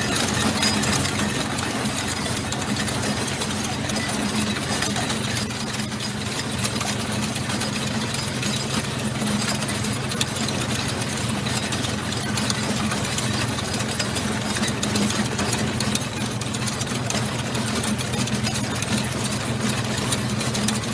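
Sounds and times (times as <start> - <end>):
tank engine droning with rattle: 0.0 - 20.9.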